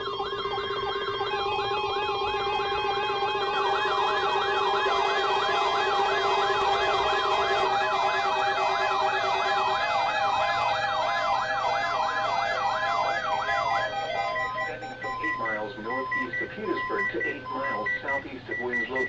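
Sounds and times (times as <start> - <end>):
electronic yelp sirens: 0.0 - 19.0
steady held siren tones: 0.0 - 19.0.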